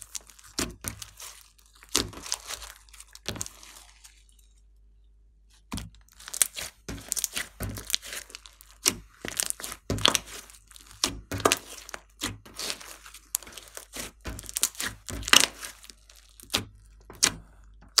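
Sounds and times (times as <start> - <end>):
slime popping and crackling: 0.0 - 4.5, 5.7 - 18.0.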